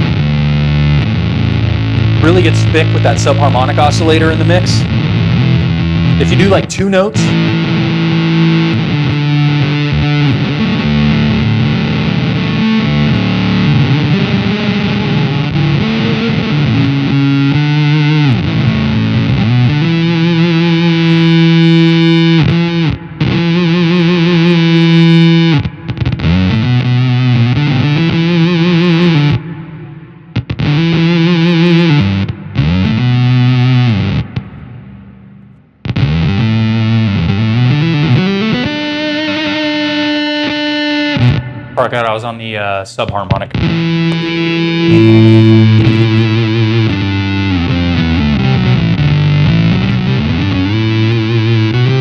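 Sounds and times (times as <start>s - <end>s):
fuzzy synth guitar tone: 0.0s - 41.8s, 43.3s - 52.0s.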